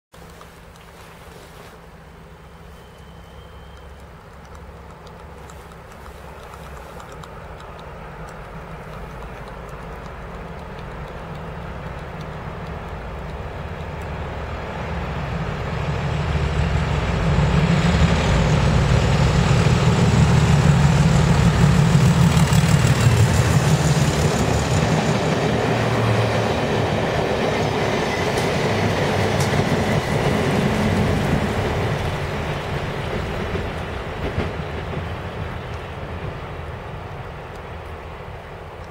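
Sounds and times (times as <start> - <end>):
diesel locomotive engine: 0.2 - 38.9
train wheels rumbling on rails: 0.2 - 38.9.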